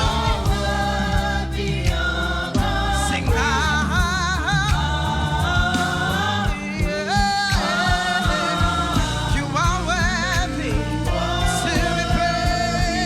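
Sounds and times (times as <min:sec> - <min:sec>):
bass: 0:00.0 - 0:13.0
steady drum beat: 0:00.0 - 0:13.0
voices singing gospel music: 0:00.0 - 0:13.0.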